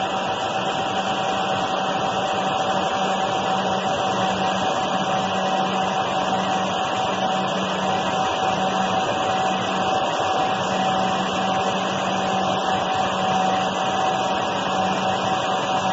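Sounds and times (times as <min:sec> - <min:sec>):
machine whirring and humming: 0:00.0 - 0:15.9.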